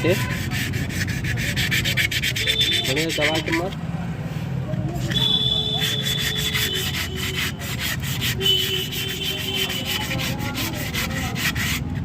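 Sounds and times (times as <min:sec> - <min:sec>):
sandpaper rubbing on steel disc: 0:00.0 - 0:03.8, 0:05.0 - 0:12.0.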